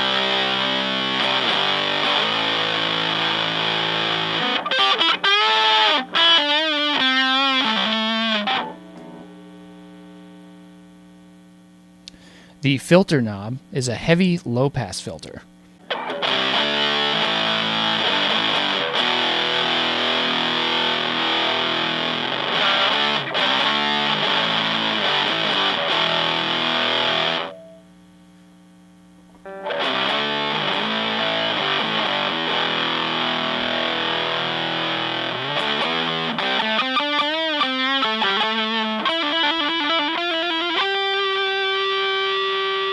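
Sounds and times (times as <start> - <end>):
fuzzed electric guitar: 0.0 - 42.9.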